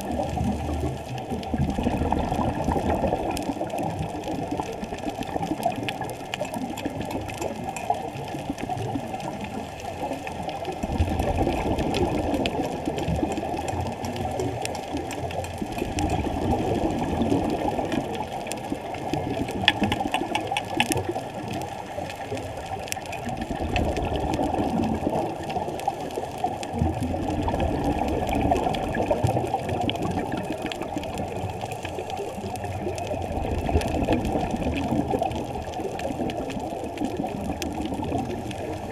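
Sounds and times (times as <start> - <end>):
exhaled bubbles: 0.0 - 38.9
faint clicks: 0.2 - 38.9.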